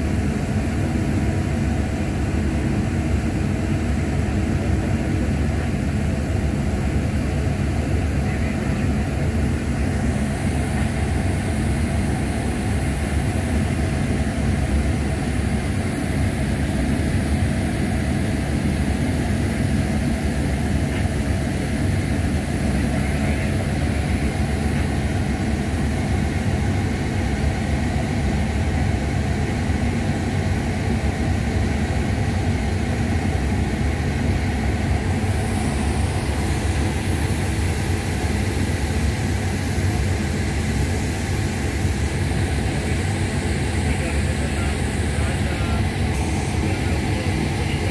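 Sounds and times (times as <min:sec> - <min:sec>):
faint hum: 0:00.0 - 0:47.9
low machine rumble: 0:00.0 - 0:47.9.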